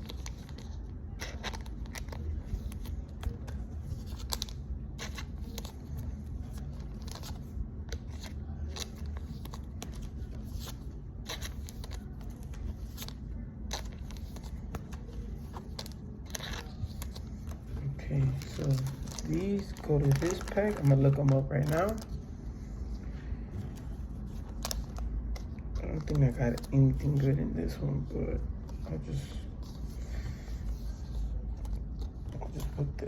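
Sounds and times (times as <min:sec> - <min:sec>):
cards crinkling and clicking: 0:00.0 - 0:22.8, 0:23.6 - 0:33.0
low steady rumble: 0:00.0 - 0:33.0.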